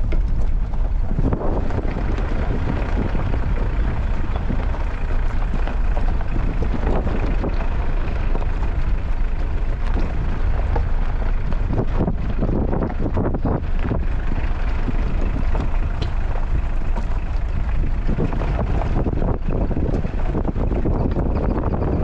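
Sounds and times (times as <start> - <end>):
car engine and road noise: 0.0 - 22.0
wind rumbling on the microphone: 0.0 - 22.0.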